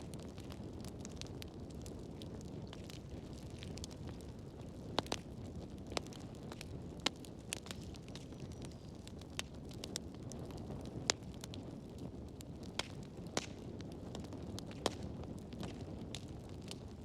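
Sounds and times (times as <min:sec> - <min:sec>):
wood fire pops and crackles: 0:00.0 - 0:17.0.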